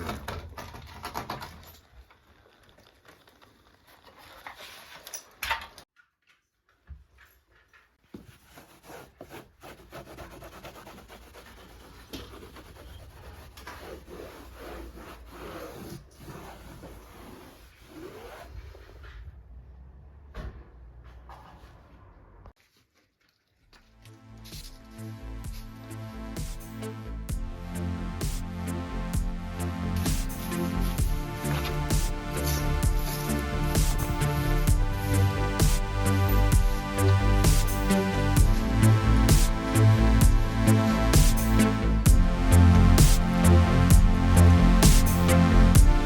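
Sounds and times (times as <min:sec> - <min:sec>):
rubbing and scraping handling noise: 0:00.0 - 0:19.6, 0:21.1 - 0:46.0.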